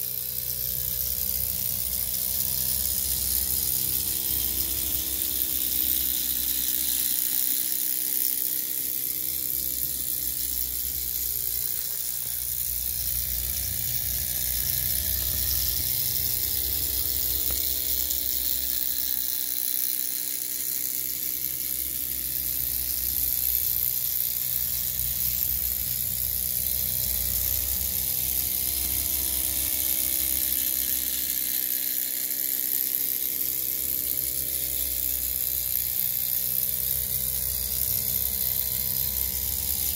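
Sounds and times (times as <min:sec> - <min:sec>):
model engine whirring: 0:00.0 - 0:39.9.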